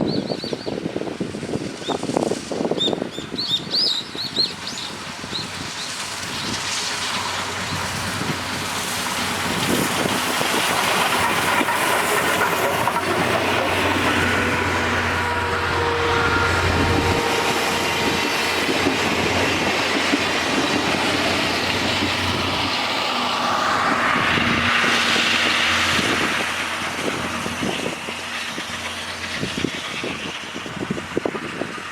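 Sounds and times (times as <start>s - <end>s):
steam train rushing: 0.0s - 31.9s.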